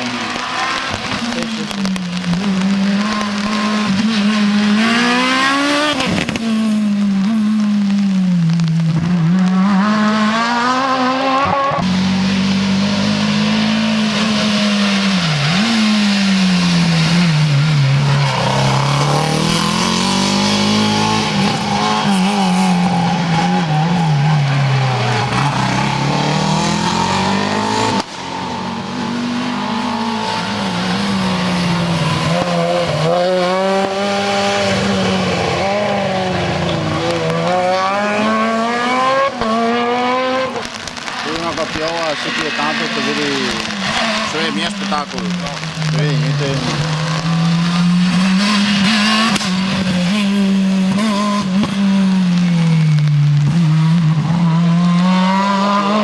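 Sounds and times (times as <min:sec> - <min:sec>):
rally car engines at full throttle: 0:00.0 - 0:56.0.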